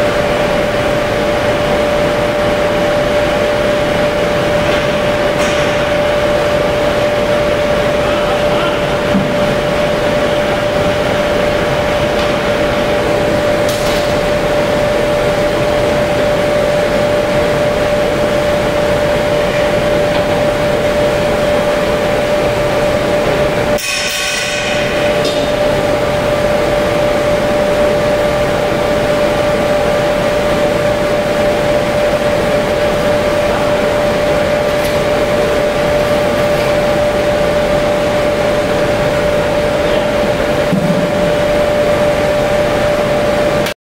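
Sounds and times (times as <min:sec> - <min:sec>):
blower hum: 0:00.0 - 0:43.8
furnace burner roar: 0:00.0 - 0:43.8.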